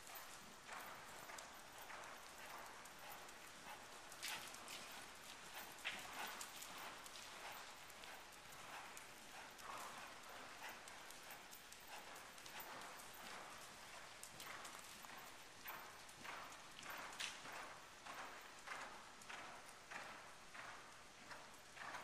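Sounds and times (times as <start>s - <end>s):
hoofbeats on sand: 0.0s - 22.0s.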